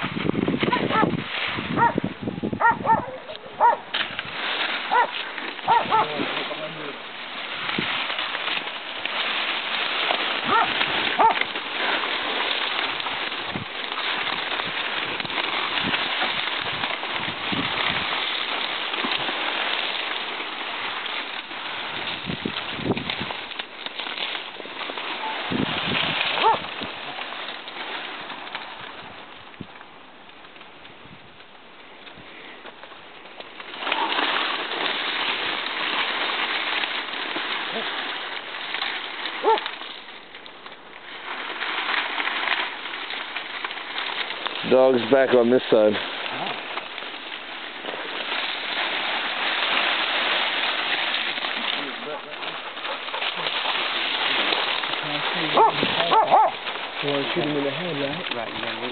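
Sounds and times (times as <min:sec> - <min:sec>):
fronds and clothing rustling: 0:00.0 - 0:58.9.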